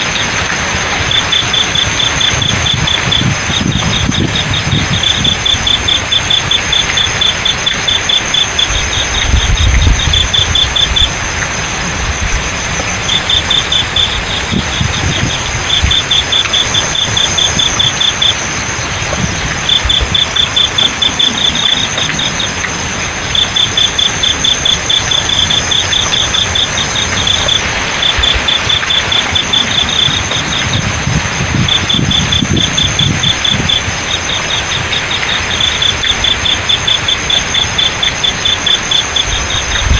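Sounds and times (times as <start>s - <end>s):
crickets chirping: 0.0s - 39.9s
flowing water hiss: 0.0s - 39.9s
high insect trill: 0.0s - 39.9s.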